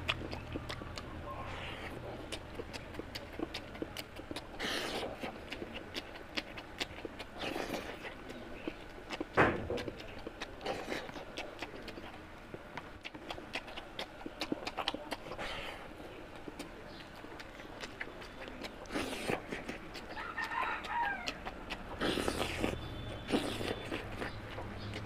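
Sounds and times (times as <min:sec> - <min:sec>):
person chewing with wet clicks: 0:00.0 - 0:25.0.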